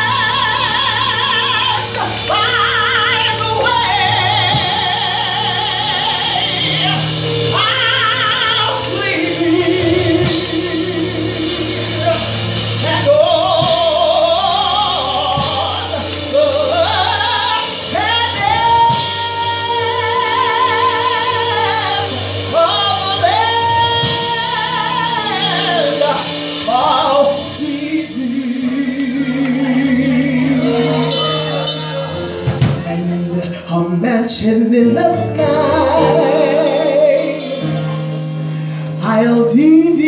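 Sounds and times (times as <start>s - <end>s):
band accompaniment: 0.0s - 40.0s
woman singing through a microphone: 0.0s - 40.0s.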